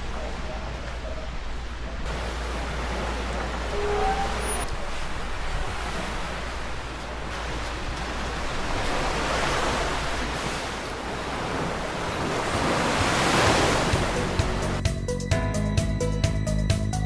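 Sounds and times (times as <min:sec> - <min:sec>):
waves washing onto beach: 0:00.0 - 0:14.8.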